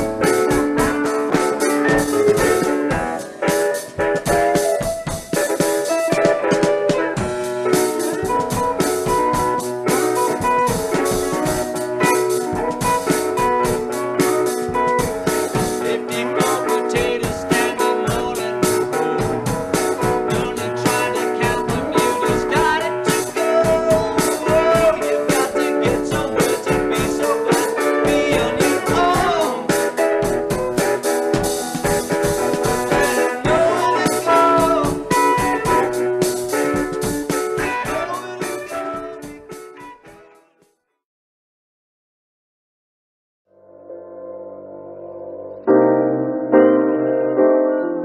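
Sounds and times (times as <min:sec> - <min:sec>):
steady drum beat: 0:00.0 - 0:39.9
keyboard: 0:00.0 - 0:40.2, 0:43.9 - 0:48.0
electric guitar: 0:00.0 - 0:40.4.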